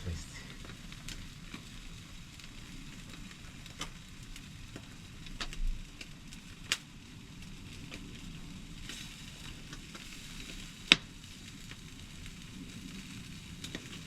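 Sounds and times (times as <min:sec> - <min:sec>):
fire crackling and popping: 0:00.0 - 0:14.0
meat sizzling on a grill: 0:00.0 - 0:14.0.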